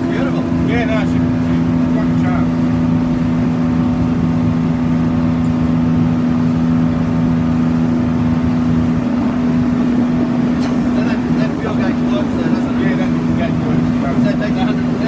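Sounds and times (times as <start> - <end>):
motorboat engine humming: 0.0 - 15.0
water rushing: 0.0 - 15.0.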